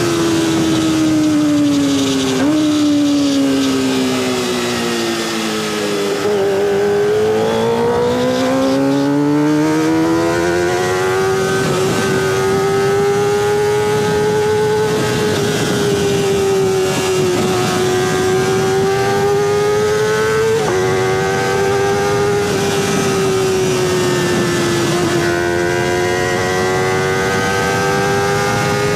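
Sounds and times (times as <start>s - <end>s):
motorcycle engine at high revs: 0.0s - 28.9s.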